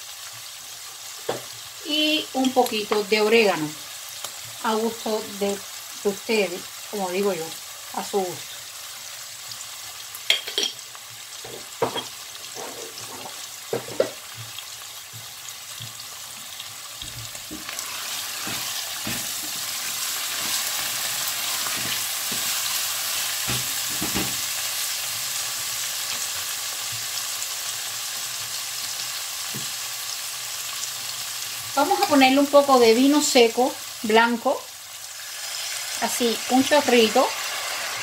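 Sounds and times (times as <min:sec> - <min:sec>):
food sizzling in a pot: 0:00.0 - 0:38.0.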